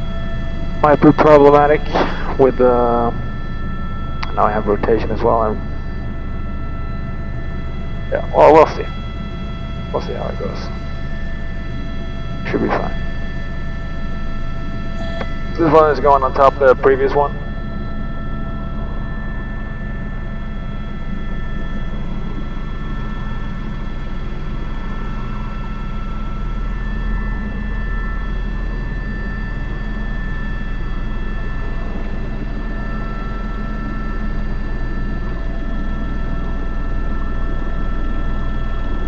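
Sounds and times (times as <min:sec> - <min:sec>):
helicopter rotor drone: 0:00.0 - 0:39.0
turbine and gearbox whine: 0:00.0 - 0:39.0.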